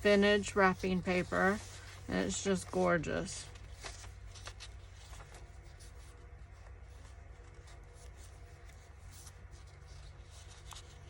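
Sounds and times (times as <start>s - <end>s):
low steady hum: 0.0s - 11.0s
paper pages rustling: 0.0s - 11.0s.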